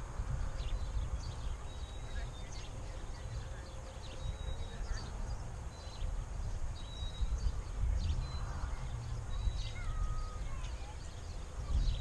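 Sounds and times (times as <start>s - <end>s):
wind buffeting the microphone: 0.0s - 12.0s
faint bird chirps: 0.3s - 12.0s.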